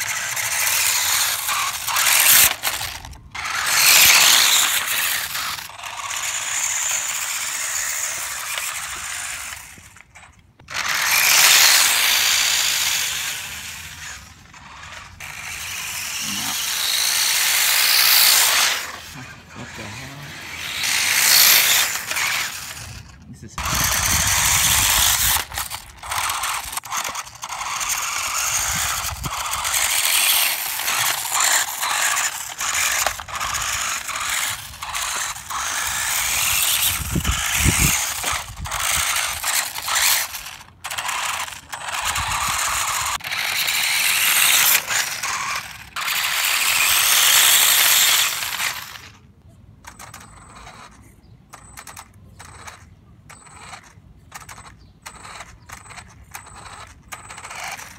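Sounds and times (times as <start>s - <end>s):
rc vehicle rattling on concrete: 0.0s - 57.9s.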